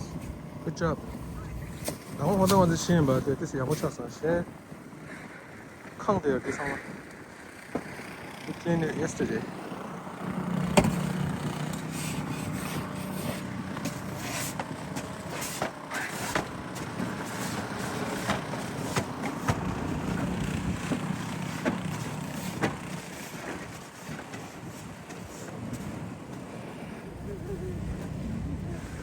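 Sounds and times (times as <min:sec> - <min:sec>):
snow shovels scraping: 0:00.0 - 0:04.2, 0:07.6 - 0:29.0
engine running: 0:00.0 - 0:29.0.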